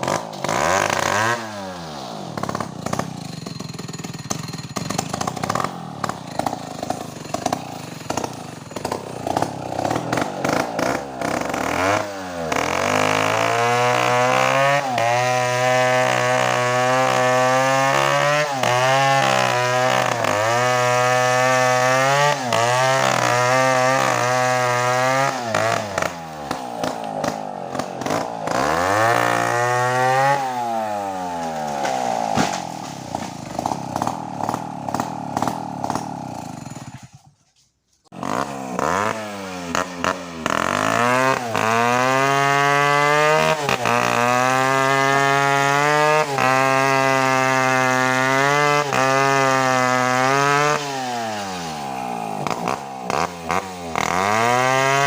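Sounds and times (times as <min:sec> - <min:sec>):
two-stroke chainsaw revving: 0:00.0 - 0:37.3, 0:38.1 - 0:55.0.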